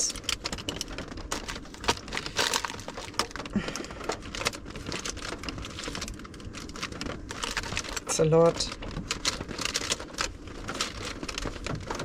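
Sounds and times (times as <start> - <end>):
bag rustling: 0.0 - 12.0
pens clicking and clattering: 0.0 - 12.0.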